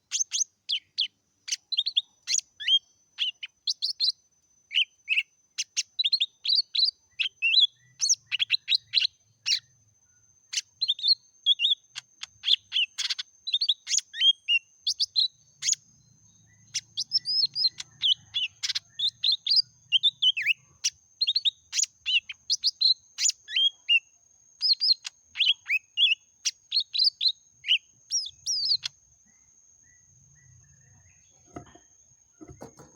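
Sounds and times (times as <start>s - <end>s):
bird singing chirps and whistles: 0.1s - 9.8s, 10.5s - 29.0s.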